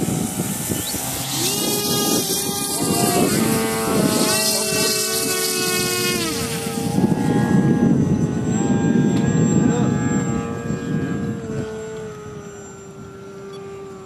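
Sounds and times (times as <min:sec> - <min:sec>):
model plane motor humming: 0:00.0 - 0:14.0
wind rumbling on microphone: 0:00.0 - 0:14.0.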